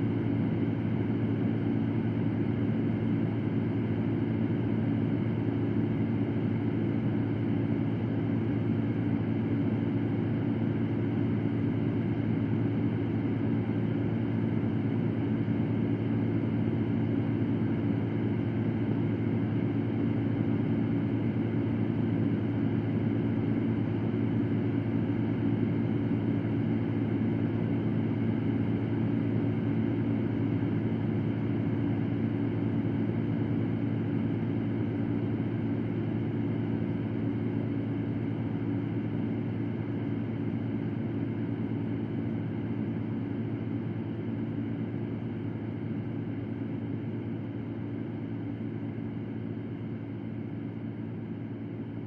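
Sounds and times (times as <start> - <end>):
electric fan running: 0.0 - 52.0.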